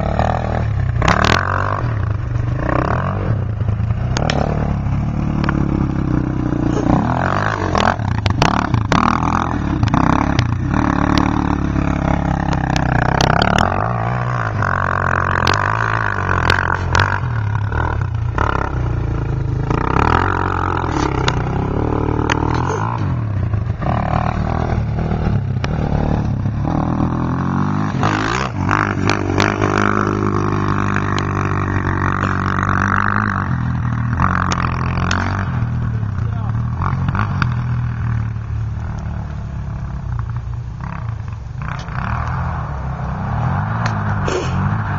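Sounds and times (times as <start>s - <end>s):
quad engine revving: 0.0s - 44.9s.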